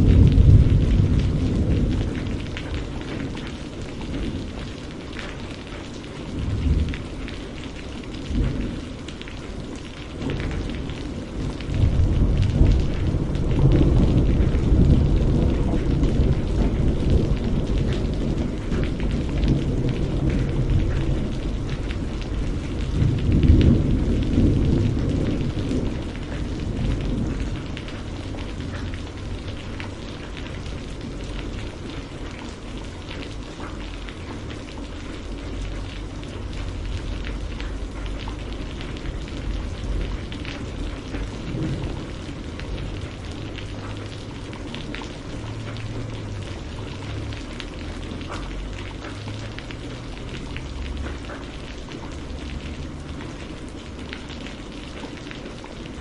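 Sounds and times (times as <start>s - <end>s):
low thunder rumble: 0.0s - 5.4s, 6.2s - 32.8s, 33.7s - 56.0s
raindrop ticks: 0.0s - 56.0s
steady rain falling: 0.0s - 56.0s.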